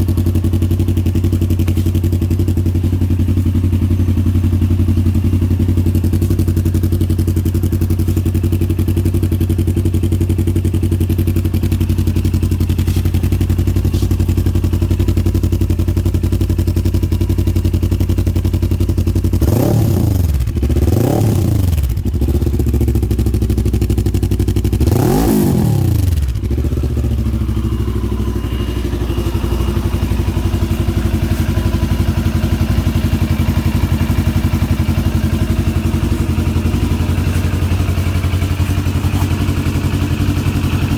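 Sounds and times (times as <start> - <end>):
motorcycle engine idling: 0.0 - 40.9
motorcycle throttle blips: 0.0 - 40.9.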